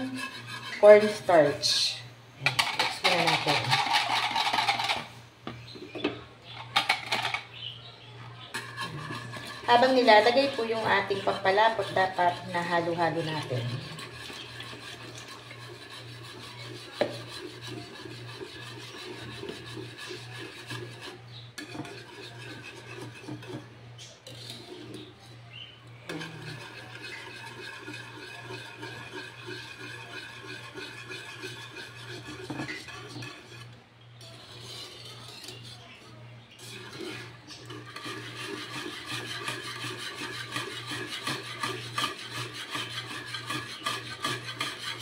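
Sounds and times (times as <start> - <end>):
wire whisk scraping a pan: 0.0 - 5.2, 6.6 - 7.5, 8.4 - 45.0.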